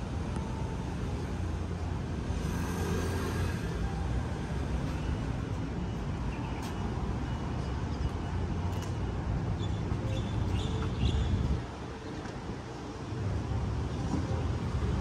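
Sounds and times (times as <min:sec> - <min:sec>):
rumble of traffic: 0:00.0 - 0:15.0.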